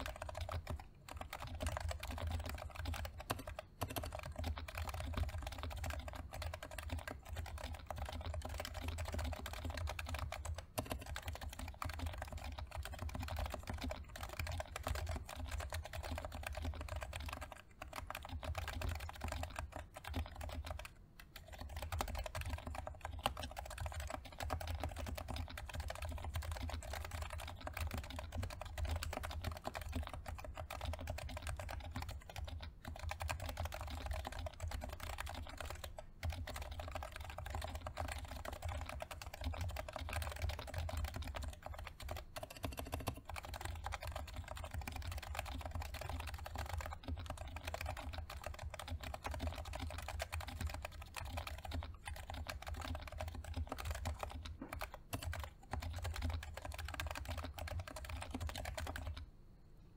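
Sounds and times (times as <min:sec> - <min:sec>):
fast keyboard typing: 0:00.0 - 0:59.3.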